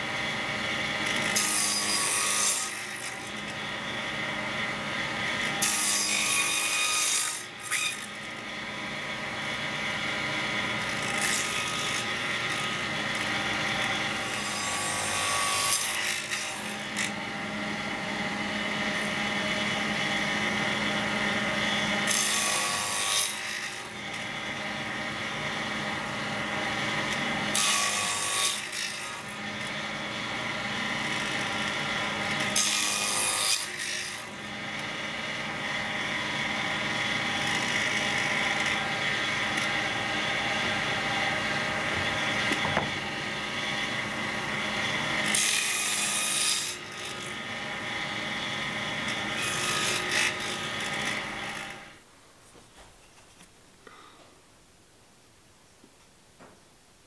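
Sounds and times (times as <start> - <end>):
saw blade cutting board: 0.0 - 52.0
table saw motor running: 0.0 - 52.0.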